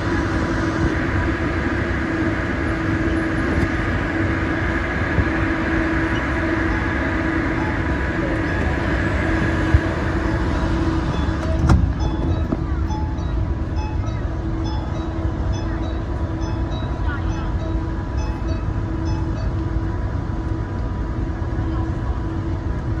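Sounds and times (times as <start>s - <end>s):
train hum at station: 0.0s - 23.0s.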